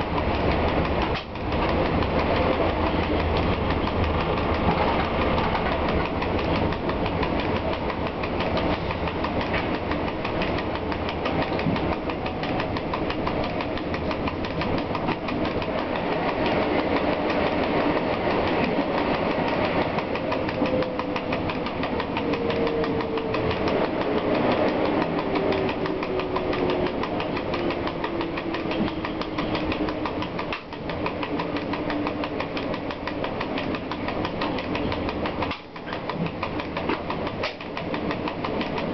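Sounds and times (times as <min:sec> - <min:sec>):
wheels rumbling and rattling on track: 0:00.0 - 0:38.9.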